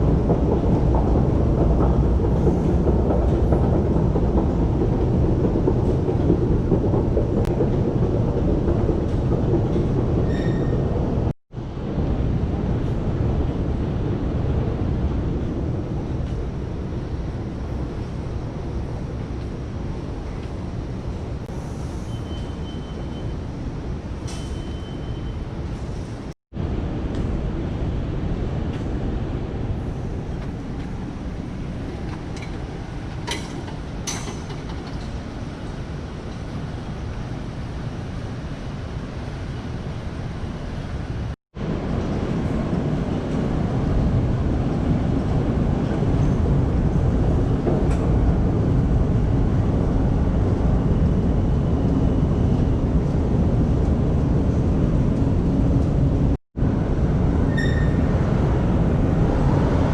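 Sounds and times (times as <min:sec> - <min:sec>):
low rumble of subway train: 0:00.0 - 0:59.9.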